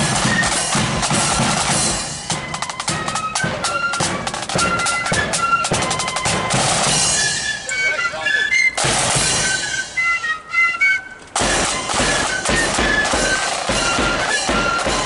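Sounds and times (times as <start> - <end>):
marching snare drums: 0.0 - 7.6, 8.8 - 10.0, 11.4 - 15.0.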